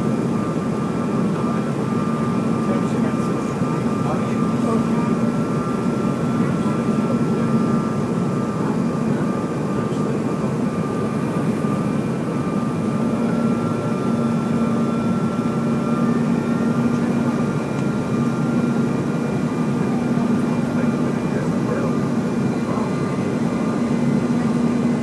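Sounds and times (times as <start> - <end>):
jet engine drone: 0.0 - 25.0.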